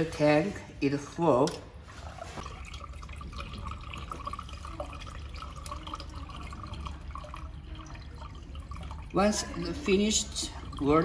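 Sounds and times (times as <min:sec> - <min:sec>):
water trickling and dripping: 0:01.5 - 0:11.0.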